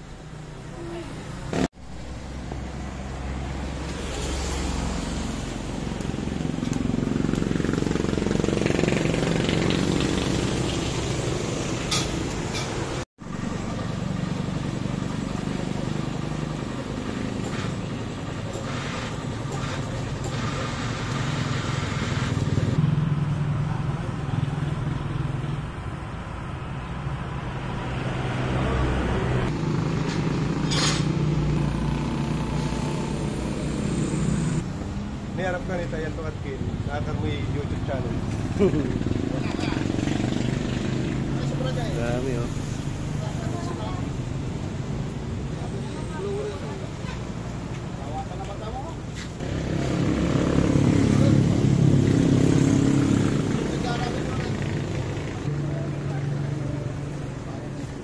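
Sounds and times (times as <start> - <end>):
vehicle engine hum: 0.0 - 58.0.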